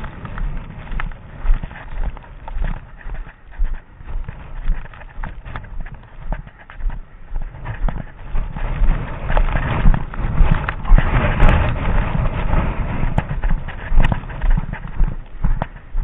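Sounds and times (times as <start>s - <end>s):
footsteps in deep snow: 0.0s - 16.0s.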